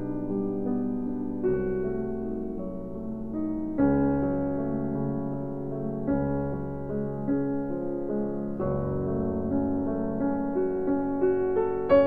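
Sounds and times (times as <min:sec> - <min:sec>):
calm piano music: 0:00.0 - 0:12.0.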